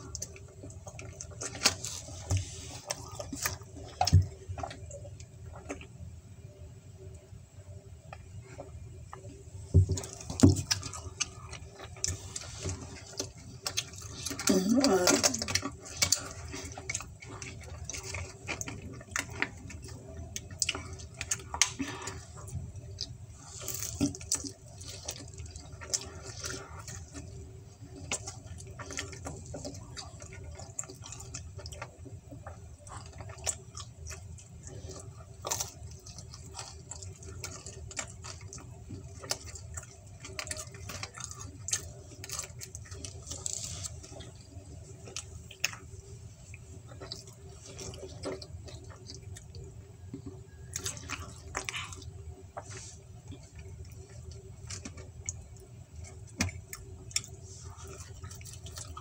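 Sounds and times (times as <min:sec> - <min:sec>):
low steady hum: 0:00.0 - 0:59.0
person chewing and lip-smacking: 0:10.0 - 0:59.0.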